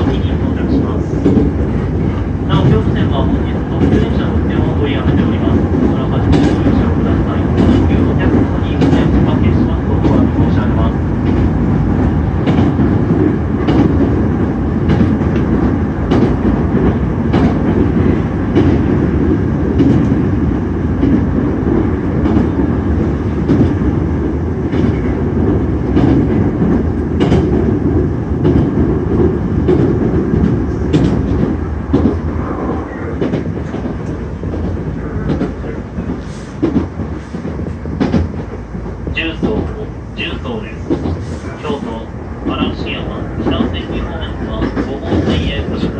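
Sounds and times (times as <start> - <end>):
clacks over rail joints: 0.0 - 24.0, 24.6 - 32.3, 33.1 - 45.9
train wheels rumbling on rail: 0.0 - 45.9.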